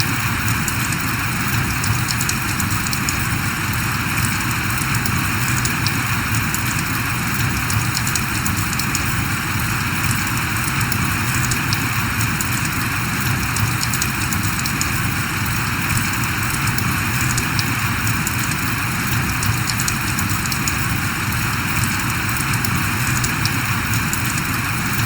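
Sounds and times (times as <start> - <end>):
drops ticking on a surface: 0.0 - 3.6, 4.2 - 25.0
steady rain: 0.0 - 25.0.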